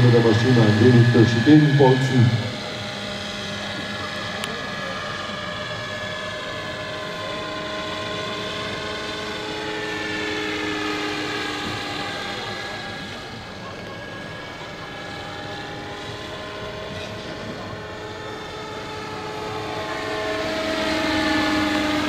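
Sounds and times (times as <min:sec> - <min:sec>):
model helicopter whine: 0:00.0 - 0:22.0.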